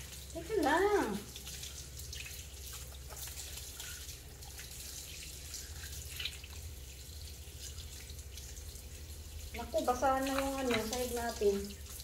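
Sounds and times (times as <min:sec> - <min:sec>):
faucet water running: 0:00.0 - 0:12.0
water splashing and dripping: 0:00.0 - 0:12.0.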